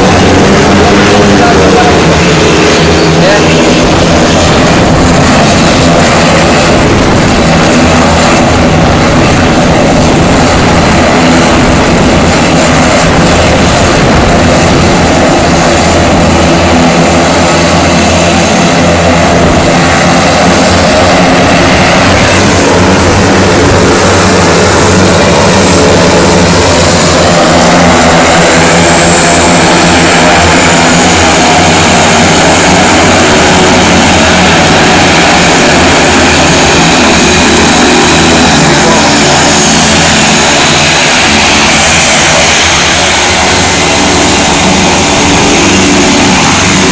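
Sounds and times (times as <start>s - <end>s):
turboprop aircraft taxiing: 0.0s - 46.9s.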